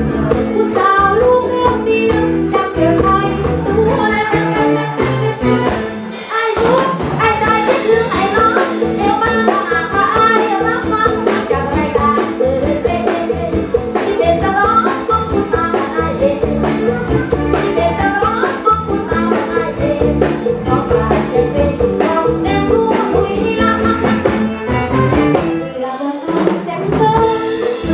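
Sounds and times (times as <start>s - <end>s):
women singing into microphones: 0.0s - 4.9s, 6.3s - 24.3s, 25.6s - 27.9s
amplified backing track: 0.0s - 27.9s.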